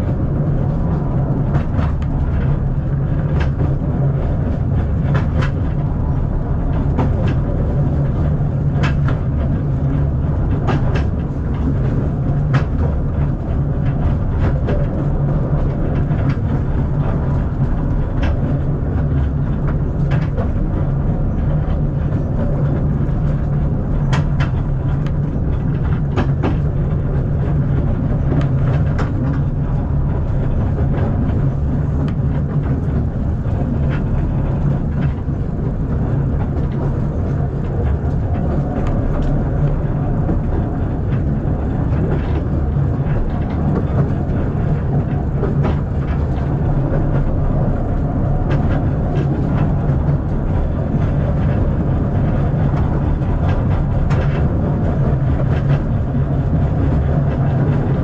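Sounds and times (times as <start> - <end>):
train carriage rumbling: 0.0 - 58.0.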